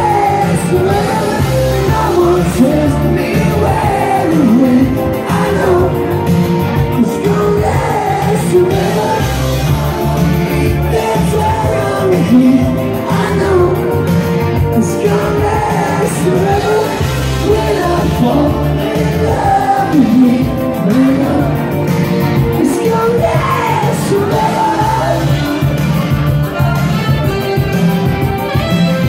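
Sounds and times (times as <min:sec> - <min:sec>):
man singing into microphone: 0:00.0 - 0:21.8, 0:22.5 - 0:25.6
amplified backing music with beat: 0:00.0 - 0:29.0.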